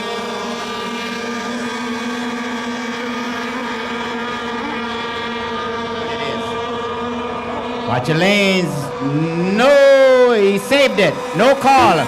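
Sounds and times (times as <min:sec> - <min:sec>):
racing boat engines whining: 0:00.0 - 0:12.0.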